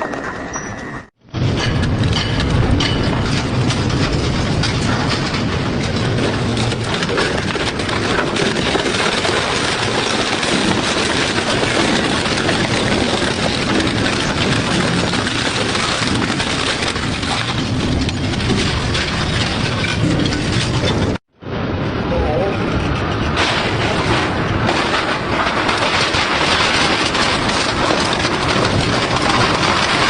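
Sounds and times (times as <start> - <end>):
metal tearing crunches and clanks: 1.4 - 21.2, 23.3 - 30.0
shredder grinding metal scrap: 1.8 - 21.2, 23.3 - 30.0.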